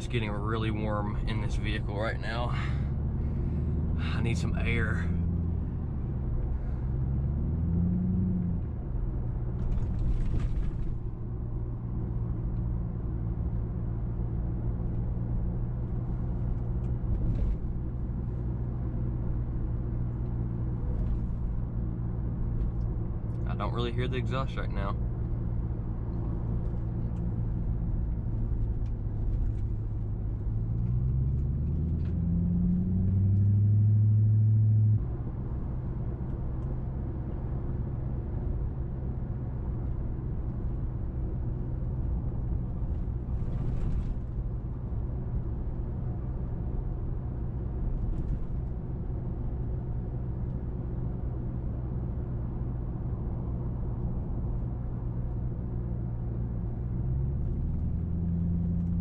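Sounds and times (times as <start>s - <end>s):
car engine exhaust drone: 0.0s - 59.0s.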